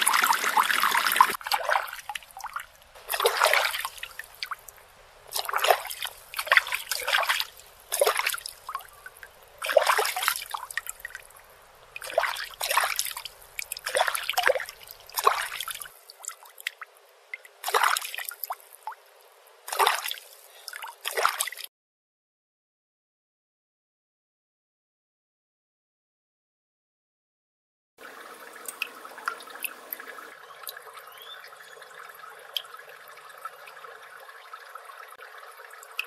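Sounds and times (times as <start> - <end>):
water splashing and trickling: 0.0 - 21.7, 28.0 - 36.0.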